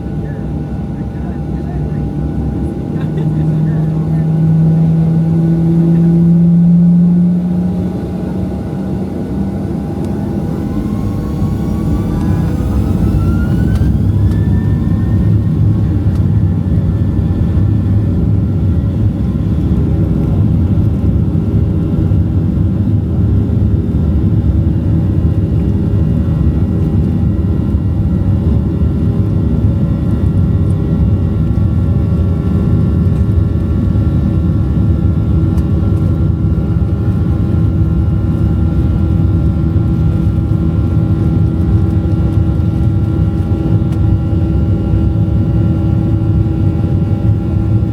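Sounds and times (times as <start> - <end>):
jet engine rumble in cabin: 0.0 - 47.9
jet engine whine: 0.0 - 47.9.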